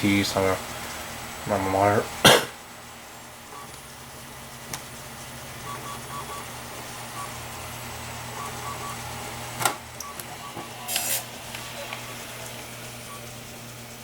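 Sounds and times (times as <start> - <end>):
computer fan hum: 0.0 - 14.0.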